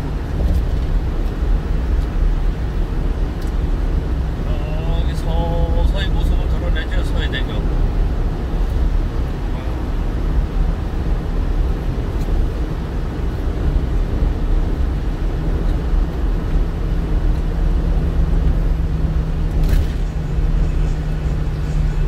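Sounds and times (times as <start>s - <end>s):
car road noise: 0.0s - 22.0s.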